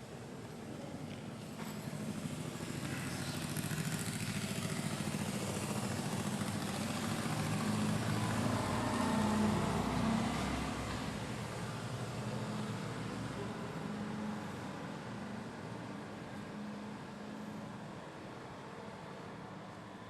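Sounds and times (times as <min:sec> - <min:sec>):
vehicle engine approaching: 0:00.8 - 0:17.9.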